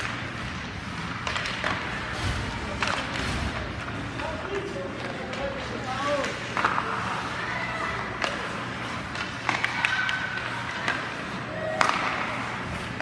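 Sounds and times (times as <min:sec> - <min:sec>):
hockey sticks knocking puck: 0:00.0 - 0:07.4, 0:08.0 - 0:13.0.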